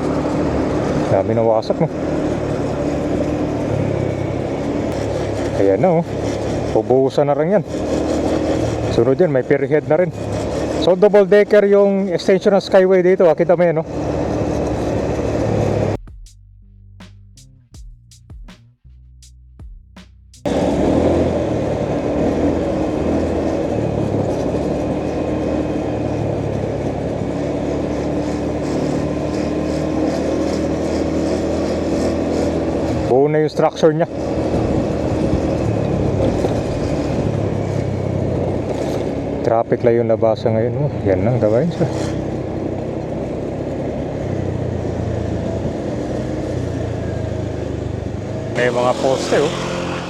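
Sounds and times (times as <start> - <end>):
road and traffic noise: 0.0 - 16.0, 20.4 - 50.0
vehicle engine running: 0.0 - 18.4, 19.6 - 50.0.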